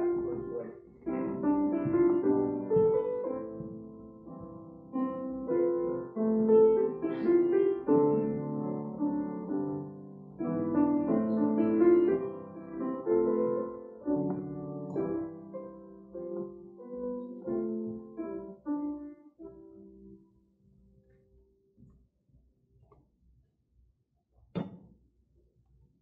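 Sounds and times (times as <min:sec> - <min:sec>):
slow gentle piano piece: 0:00.0 - 0:21.9.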